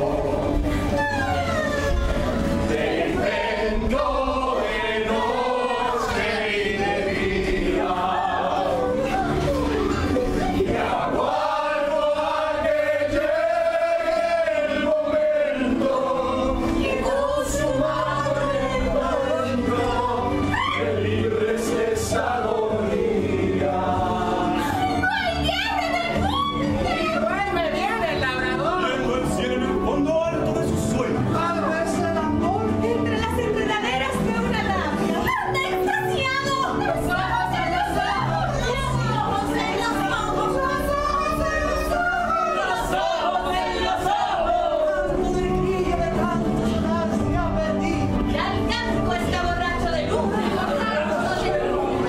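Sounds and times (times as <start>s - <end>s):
group of voices singing: 0.0s - 52.0s.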